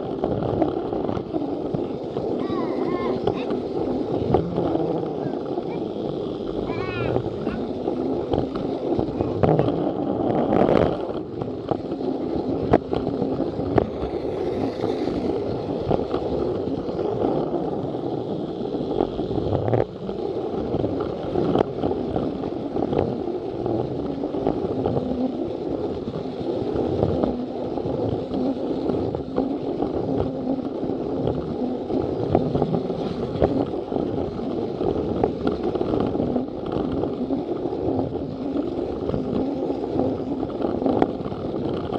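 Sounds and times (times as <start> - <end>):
toy train motor hum: 0.0 - 41.9
wheels rattling on plastic rails: 0.0 - 41.9.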